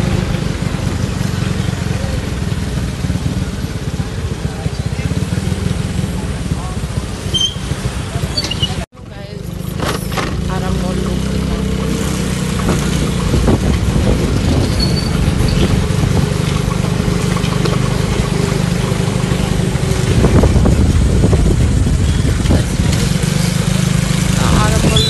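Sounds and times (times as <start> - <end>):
motorbike engine running: 0.0 - 25.0
wind and road noise: 0.0 - 25.0.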